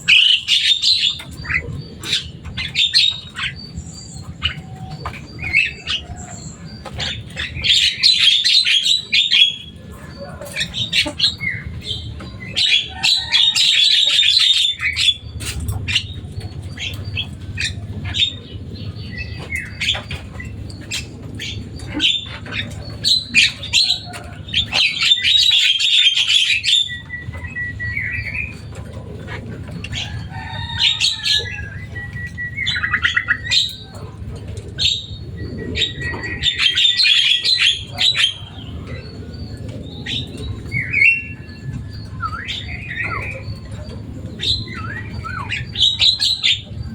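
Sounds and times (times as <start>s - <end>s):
bird harsh rasping chatter: 0.0s - 46.9s.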